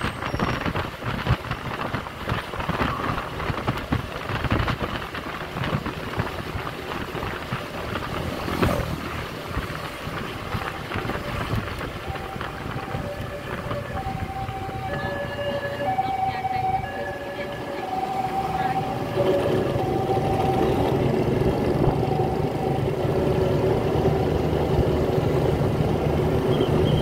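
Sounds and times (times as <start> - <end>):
scooter road noise: 0.0 - 27.0
wind buffeting microphone: 0.0 - 27.0.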